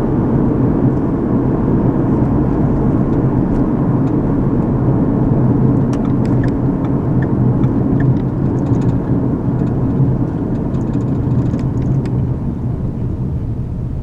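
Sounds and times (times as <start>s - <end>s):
engine and tyre road drone: 0.0s - 14.0s.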